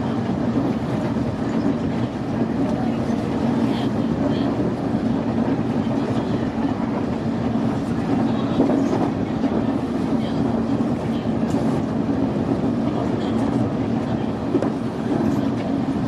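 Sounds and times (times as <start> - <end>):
electric train running hum: 0.0 - 16.0.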